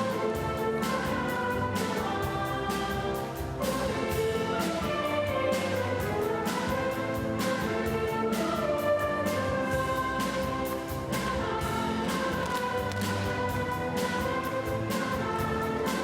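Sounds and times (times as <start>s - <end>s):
orchestra playing: 0.0s - 16.0s.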